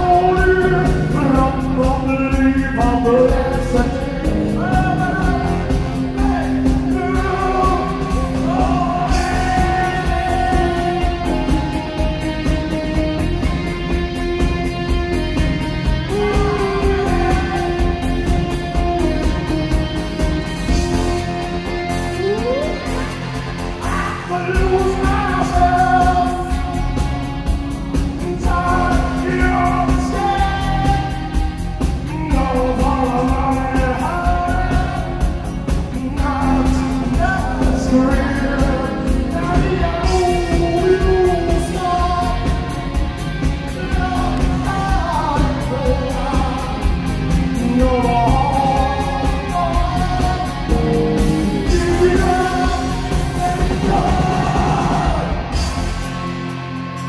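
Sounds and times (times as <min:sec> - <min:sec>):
man singing: 0:00.0 - 0:27.4, 0:28.0 - 0:56.0
rock band playing: 0:00.0 - 0:57.0.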